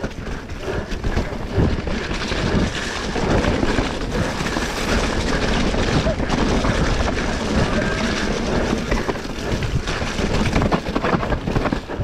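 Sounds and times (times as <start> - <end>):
bike rattling over bumps: 0.0 - 12.0
tyres rumbling on dirt: 0.0 - 12.0.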